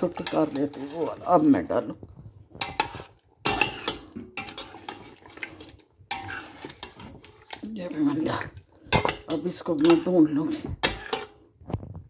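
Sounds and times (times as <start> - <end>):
metal spoon scraping a steel pot: 0.0 - 1.8, 2.5 - 11.5.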